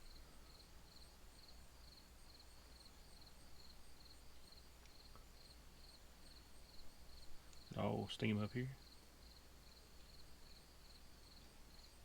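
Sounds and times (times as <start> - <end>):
cricket chirping: 0.0 - 8.0, 8.7 - 12.0.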